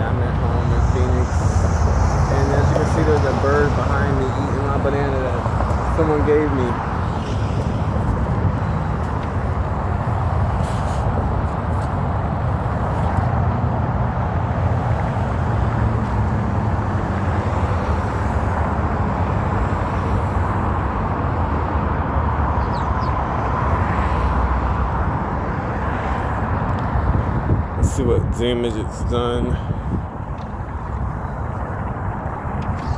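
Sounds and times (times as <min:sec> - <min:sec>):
road traffic rumble: 0:00.0 - 0:32.9.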